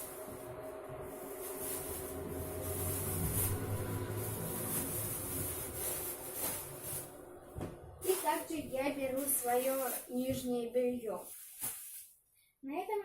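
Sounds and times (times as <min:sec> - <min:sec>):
plastic bag rustling: 0:00.0 - 0:12.2.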